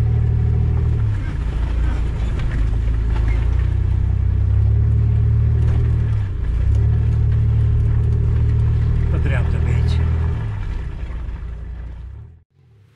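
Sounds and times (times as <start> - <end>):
off-road vehicle engine running: 0.0 - 12.9.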